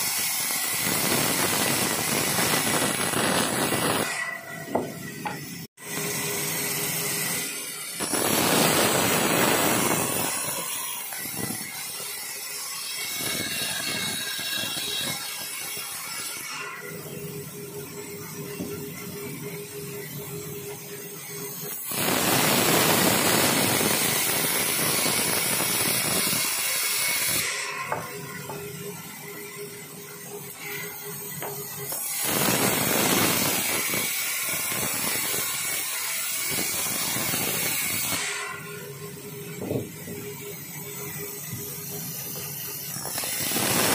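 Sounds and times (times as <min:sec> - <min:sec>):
band saw cutting through log: 0:00.0 - 0:17.5, 0:21.5 - 0:43.9
saw humming: 0:00.0 - 0:43.9.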